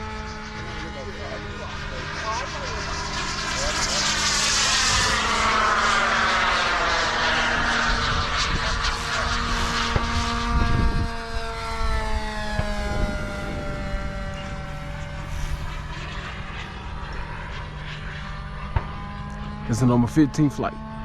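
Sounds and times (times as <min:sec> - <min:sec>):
model airplane motor whining: 0:00.0 - 0:21.0.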